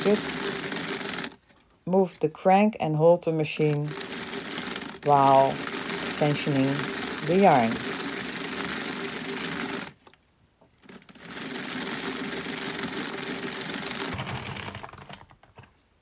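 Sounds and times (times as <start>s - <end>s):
knitting machine needles clattering: 0.0s - 1.6s, 3.6s - 15.8s.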